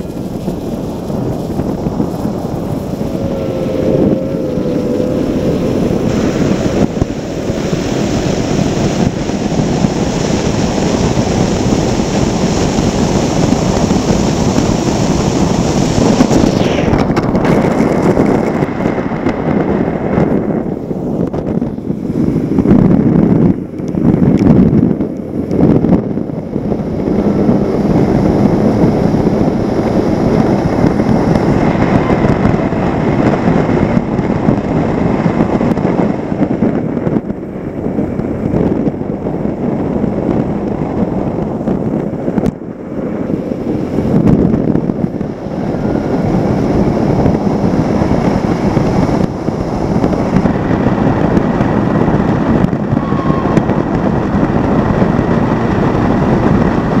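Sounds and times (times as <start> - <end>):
outboard engine running flat out: 0.0 - 57.0
rushing water and wind: 0.0 - 57.0.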